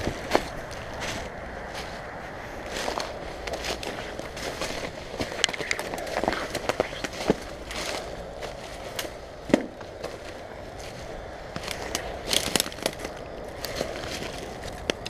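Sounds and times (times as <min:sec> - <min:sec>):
footsteps crunching through dry grass: 0:00.0 - 0:15.0.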